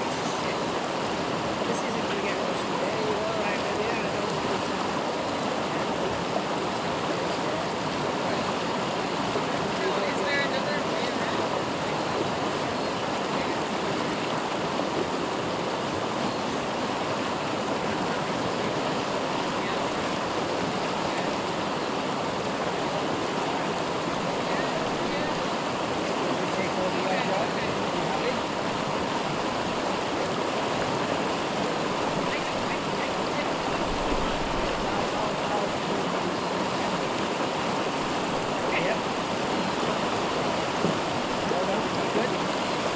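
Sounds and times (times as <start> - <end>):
flowing water rushing: 0.0 - 42.9.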